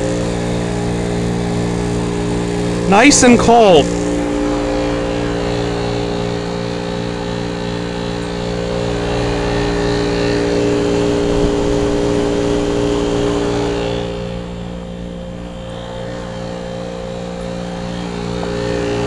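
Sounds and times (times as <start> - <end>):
heat pump humming: 0.0 - 19.0.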